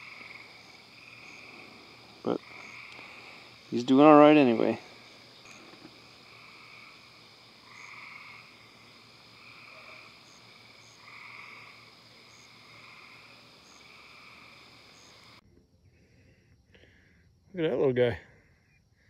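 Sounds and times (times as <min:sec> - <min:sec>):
frogs calling: 0:00.0 - 0:16.2
high-pitched insect hum: 0:00.0 - 0:19.0.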